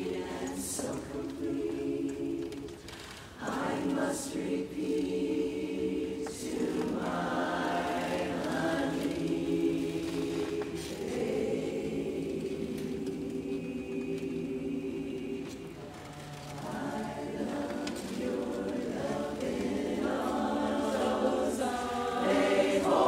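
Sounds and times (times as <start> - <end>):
women's chorus singing in harmony: 0.0 - 23.0.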